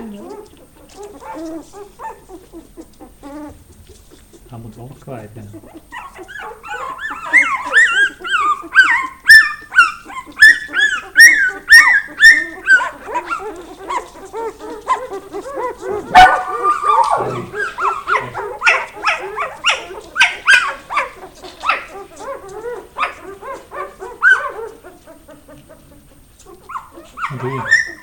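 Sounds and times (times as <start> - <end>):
puppies squealing and whining: 0.0 - 28.0.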